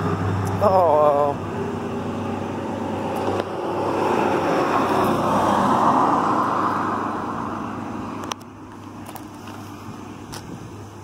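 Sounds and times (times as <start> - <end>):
passing vehicle road noise: 0.0 - 11.0.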